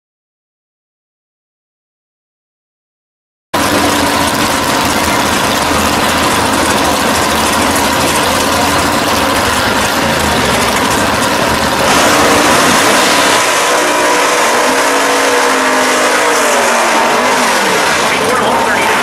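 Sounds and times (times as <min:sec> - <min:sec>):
car engines idling: 0:03.6 - 0:19.0.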